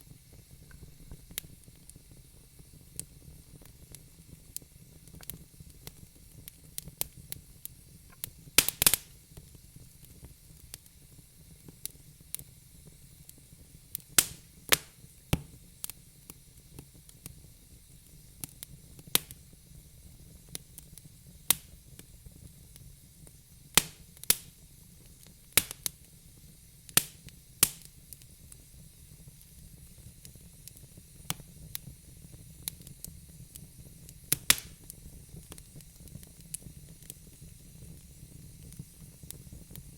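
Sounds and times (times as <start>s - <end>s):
faint steady hiss: 0.0s - 39.9s
fire crackling and popping: 0.0s - 39.9s.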